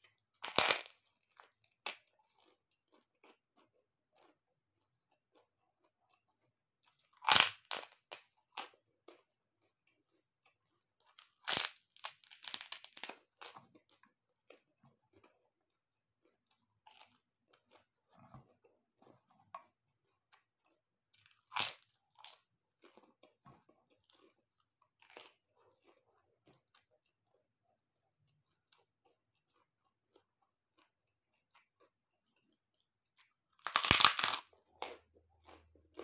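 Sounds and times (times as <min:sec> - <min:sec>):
crunching and chewing: 0:00.0 - 0:36.0.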